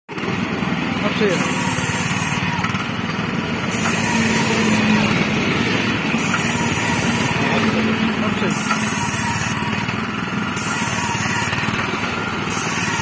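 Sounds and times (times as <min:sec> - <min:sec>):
machine spraying paint: 0:00.1 - 0:13.0
small engine running steadily: 0:00.1 - 0:13.0.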